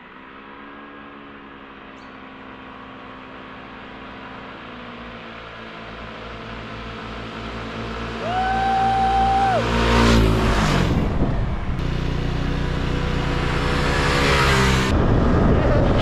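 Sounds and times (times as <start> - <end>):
motor scooter engines humming: 0.0 - 16.0.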